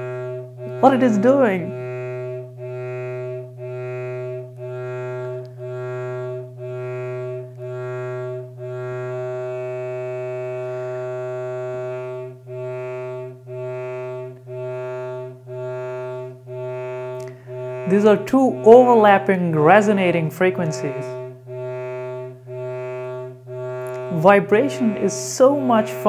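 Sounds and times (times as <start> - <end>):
low buzzy beating tone: 0.0 - 26.0.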